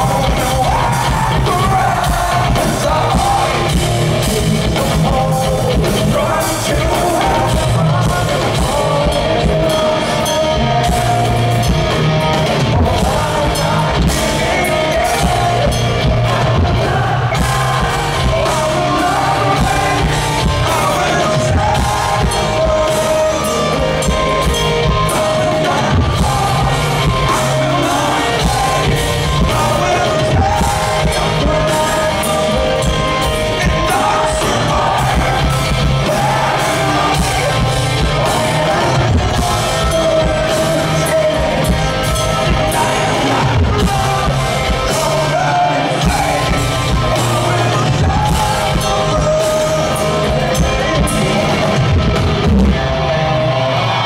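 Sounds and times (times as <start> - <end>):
bass guitar: 0.0 - 54.0
drum kit: 0.0 - 54.0
singer's lead vocal: 0.0 - 54.0.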